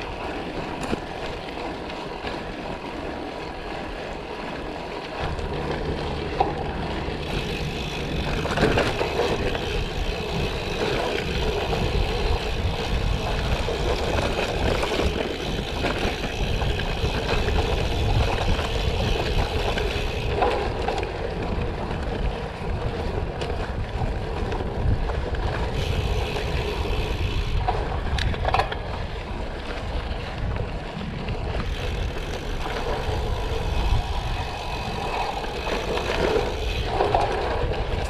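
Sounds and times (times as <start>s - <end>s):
bike tyres rolling on road: 0.0s - 38.0s
wind rumble on microphone: 0.0s - 38.0s.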